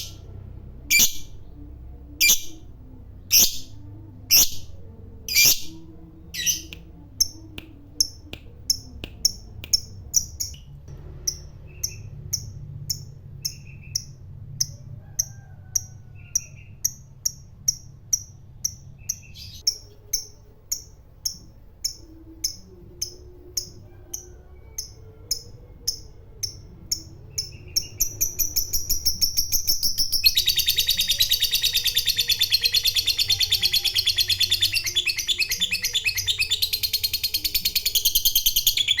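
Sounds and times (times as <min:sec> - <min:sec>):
lovebird chirping and trilling: 0:00.0 - 0:00.3, 0:00.9 - 0:02.7, 0:03.3 - 0:10.7, 0:11.3 - 0:14.2, 0:16.2 - 0:23.8, 0:24.7 - 0:39.0.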